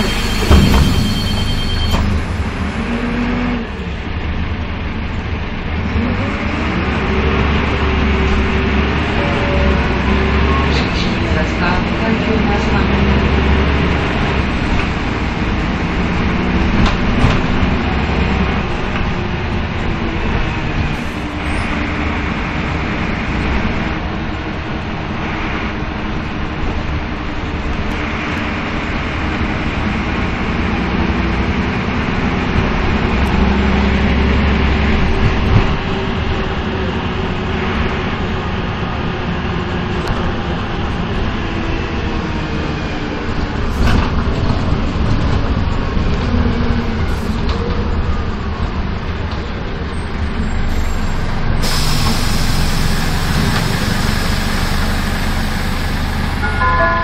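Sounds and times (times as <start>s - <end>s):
bus engine rumble: 0.0s - 57.0s
tyre and road noise: 0.0s - 57.0s.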